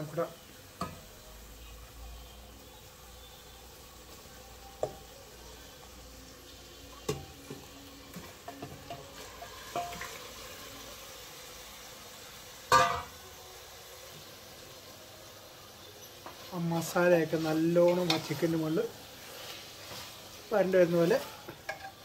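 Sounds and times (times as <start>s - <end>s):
faint sizzle: 0.0s - 22.0s.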